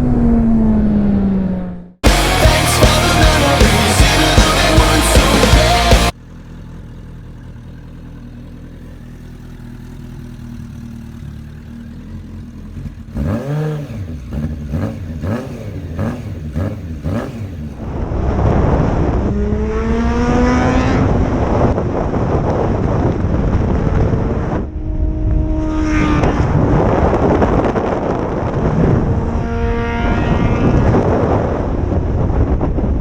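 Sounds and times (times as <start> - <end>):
motorcycle engine revving: 0.0 - 32.7.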